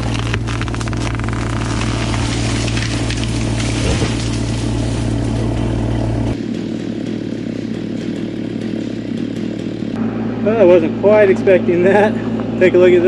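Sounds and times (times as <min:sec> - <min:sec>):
heavy engines droning: 0:00.0 - 0:13.0
lighter engine running: 0:00.0 - 0:13.0.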